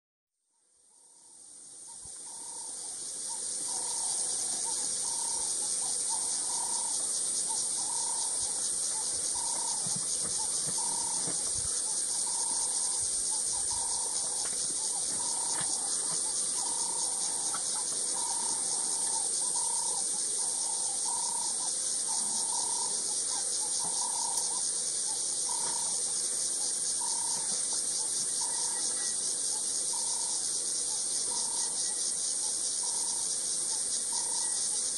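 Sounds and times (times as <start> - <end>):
insects shrilling: 1.9 - 34.9.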